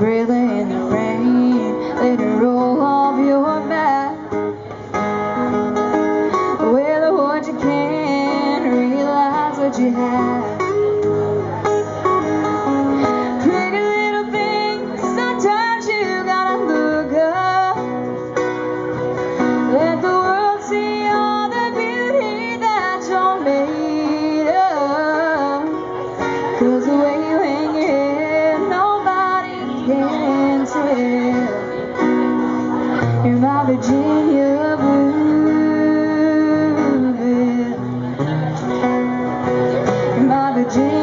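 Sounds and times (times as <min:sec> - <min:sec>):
woman singing into microphone: 0:00.0 - 0:04.7, 0:06.0 - 0:11.1, 0:12.9 - 0:18.6, 0:19.2 - 0:38.3, 0:39.6 - 0:41.0
acoustic guitars strumming: 0:00.0 - 0:41.0.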